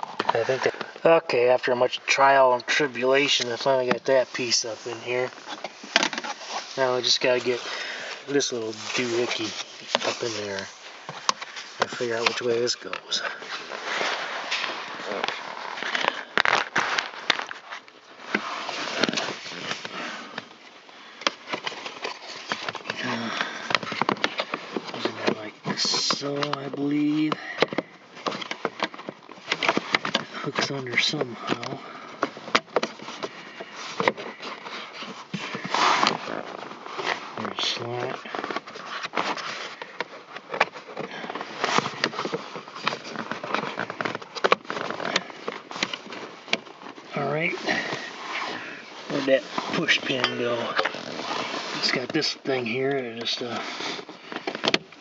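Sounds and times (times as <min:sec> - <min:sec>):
handling rustling: 0:00.0 - 0:55.0.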